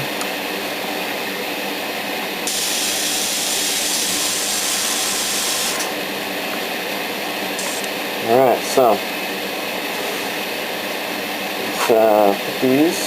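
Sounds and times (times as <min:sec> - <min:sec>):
exhaust fan hum: 0:00.0 - 0:12.9.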